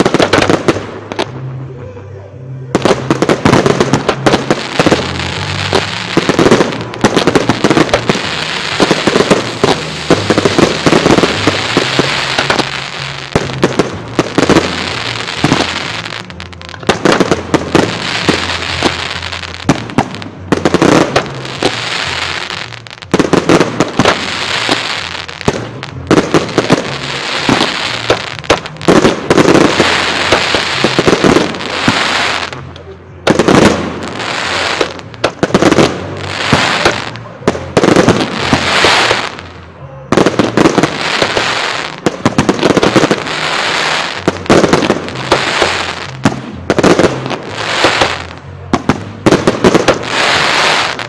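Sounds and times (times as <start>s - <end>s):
crackling firework stars: 0.0s - 51.0s.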